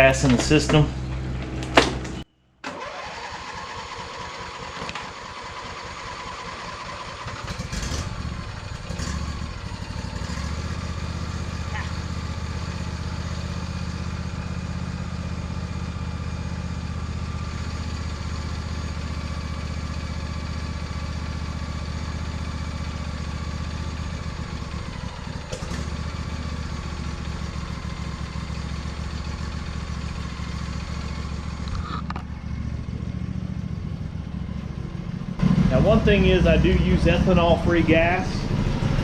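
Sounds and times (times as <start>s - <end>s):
lawn tractor engine running: 0.0s - 39.0s.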